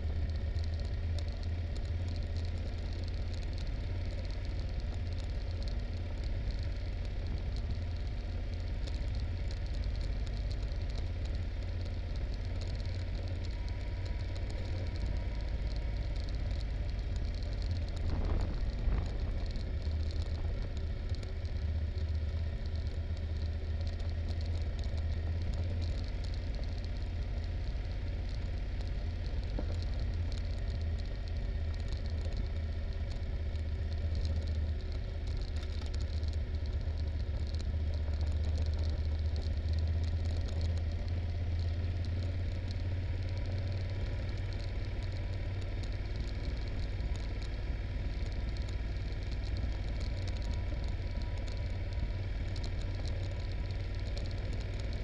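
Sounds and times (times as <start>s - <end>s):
motorcycle engine low rumble: 0.0s - 55.0s.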